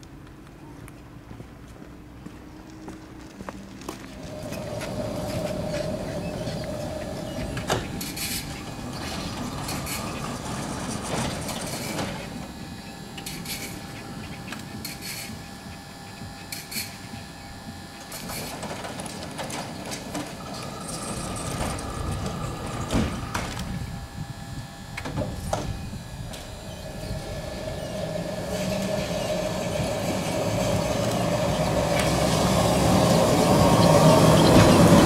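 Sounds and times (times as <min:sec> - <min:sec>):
electric tram whine: 0:02.1 - 0:35.0
tram wheels rumbling on rails: 0:02.6 - 0:35.0.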